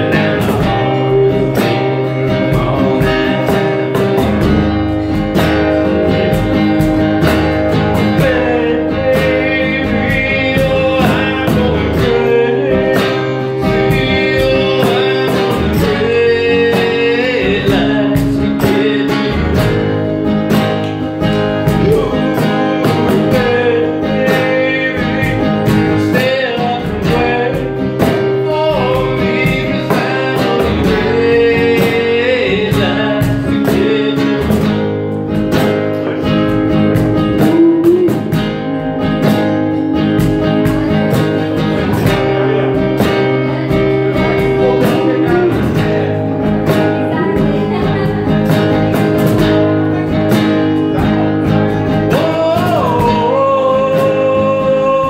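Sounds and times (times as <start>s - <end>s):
cajon beat: 0.0s - 55.0s
man singing: 0.0s - 55.0s
strummed acoustic guitar: 0.0s - 55.0s.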